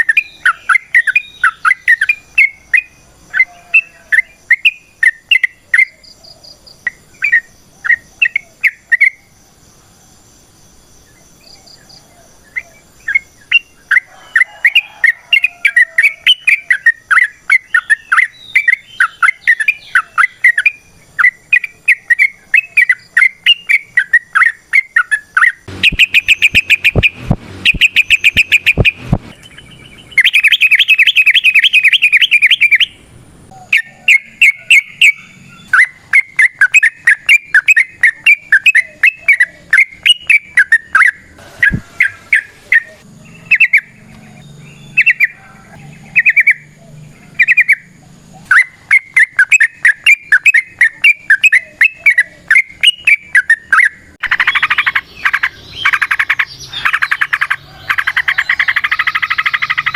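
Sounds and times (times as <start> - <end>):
bulbul chattering song: 0.0 - 9.6, 10.8 - 59.9.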